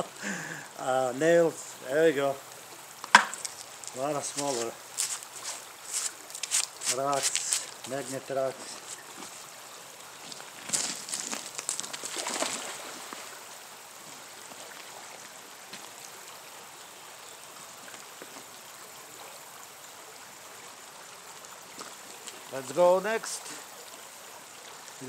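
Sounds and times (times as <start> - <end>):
creek water flowing: 0.0 - 25.0
rush of water and rope: 3.1 - 16.5, 17.7 - 25.0.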